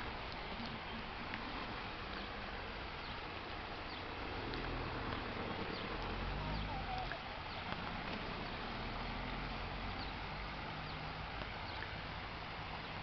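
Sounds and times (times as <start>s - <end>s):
steady rush of noise: 0.0s - 13.0s.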